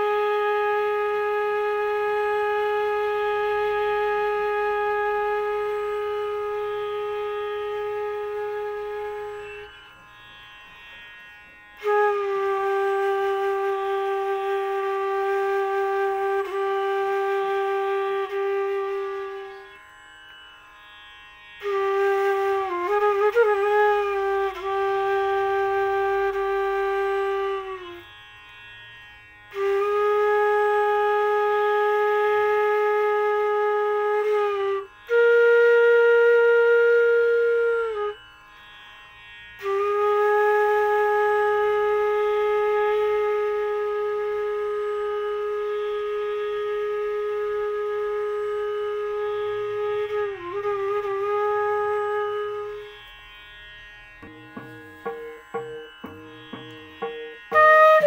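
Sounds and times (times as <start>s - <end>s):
bamboo flute long note: 0.0s - 9.8s, 11.8s - 19.9s, 21.6s - 28.1s, 29.5s - 38.2s, 39.6s - 53.1s, 54.2s - 58.0s.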